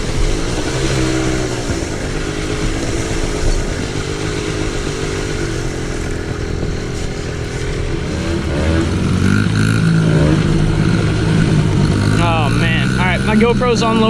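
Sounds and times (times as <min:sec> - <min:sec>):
small engine revving: 0:00.0 - 0:14.0.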